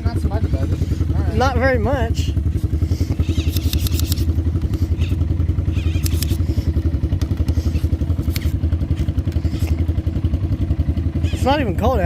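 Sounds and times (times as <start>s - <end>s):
motorbike engine idling: 0.0s - 12.0s.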